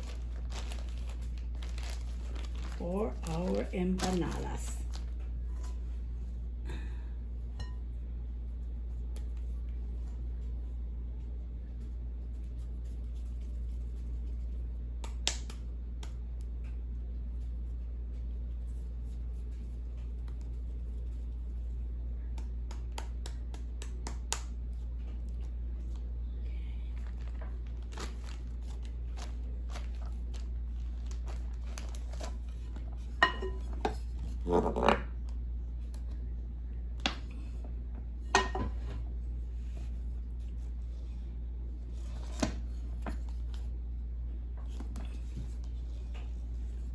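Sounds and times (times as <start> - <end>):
hands shaping dough: 0.0 - 46.9
steady low hum: 0.0 - 46.9.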